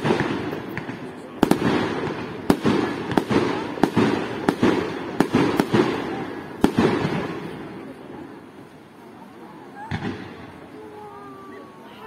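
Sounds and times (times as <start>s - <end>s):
fireworks bursting with bangs: 0.0s - 9.1s, 9.7s - 11.1s.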